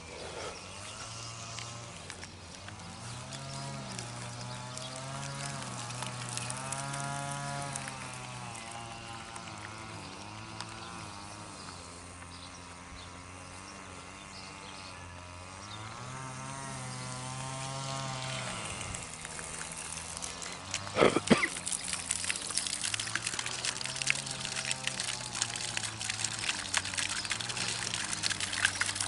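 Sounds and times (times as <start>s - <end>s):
fountain water splashing: 1.0s - 12.6s, 16.8s - 29.0s.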